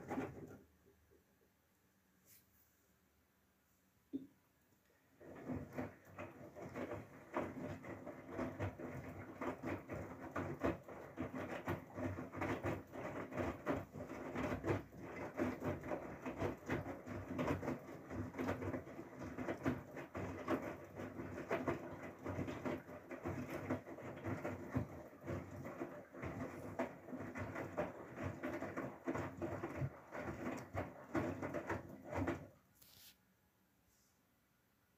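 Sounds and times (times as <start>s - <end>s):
water and laundry sloshing: 0.0s - 0.9s, 4.9s - 33.0s.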